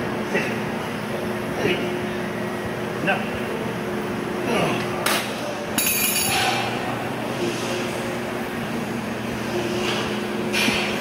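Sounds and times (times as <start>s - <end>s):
gym hall room noise with hum: 0.0s - 11.0s.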